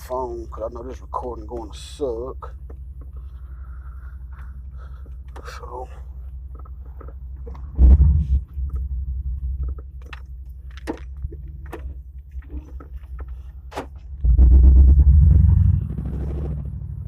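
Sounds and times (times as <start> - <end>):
car engine idling with deep rumble: 0.0 - 17.0.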